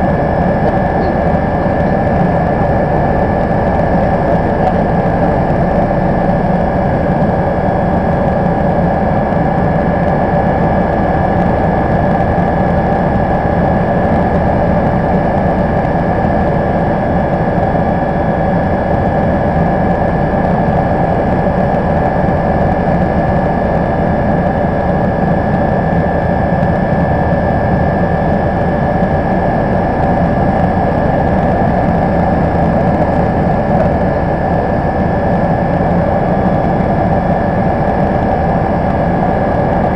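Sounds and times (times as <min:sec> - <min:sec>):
helicopter cabin noise: 0:00.0 - 0:39.9.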